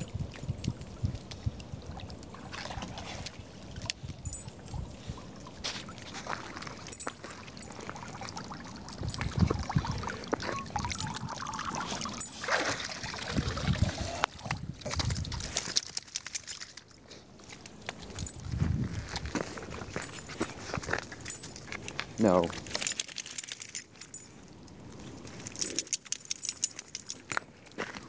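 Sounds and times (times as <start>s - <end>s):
water splashing and dripping: 0.0s - 27.8s.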